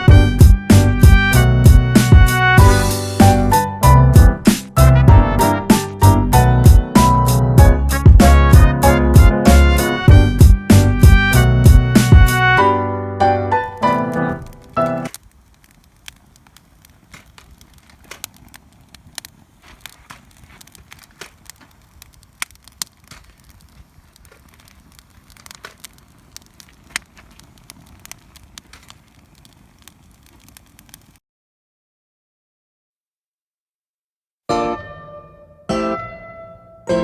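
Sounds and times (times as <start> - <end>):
wood fire crackling: 0.0 - 12.6, 13.5 - 31.2.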